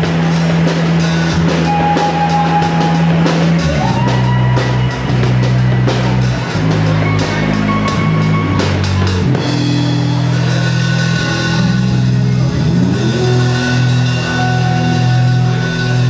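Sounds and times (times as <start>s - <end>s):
drum and cymbal hits: 0.0s - 16.0s
live rock band playing: 0.0s - 16.0s
low guitar notes: 0.0s - 16.0s.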